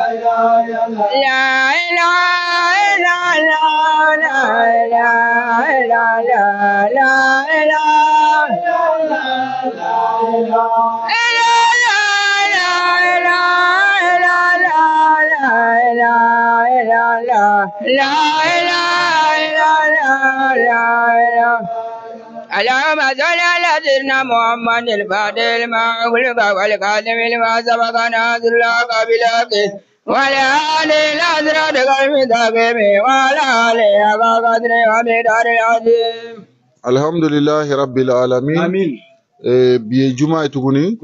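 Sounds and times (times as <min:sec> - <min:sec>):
man chanting into a microphone: 0:00.0 - 0:41.0.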